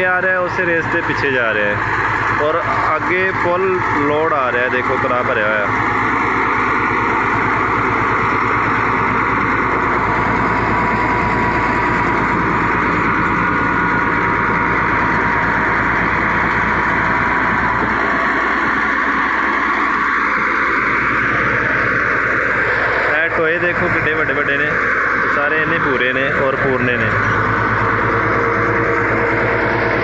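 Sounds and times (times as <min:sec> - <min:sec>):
bulldozer diesel engine under load: 0:00.0 - 0:30.0.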